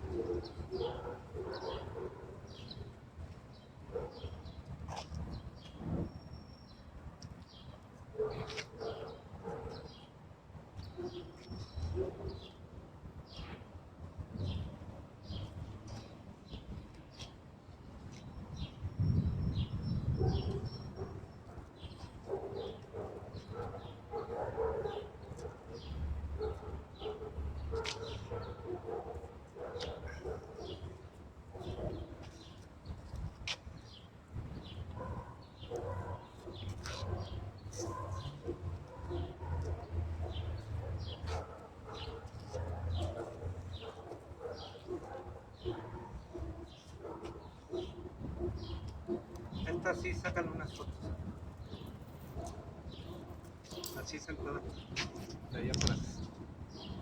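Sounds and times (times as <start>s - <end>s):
birds chirping: 0.0s - 6.8s, 7.5s - 10.1s, 18.1s - 57.0s.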